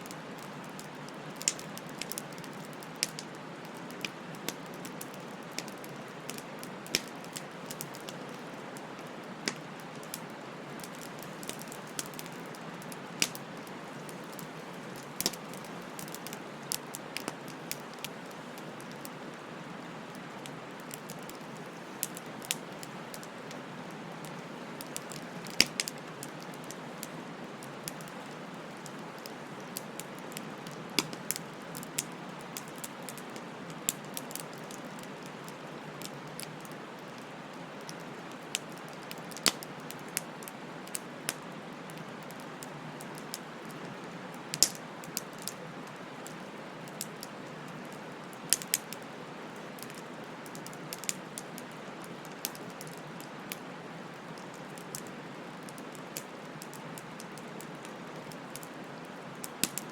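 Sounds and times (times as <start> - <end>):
bonfire crackling and popping: 0.0 - 59.9
soft hiss of burning: 0.0 - 59.9.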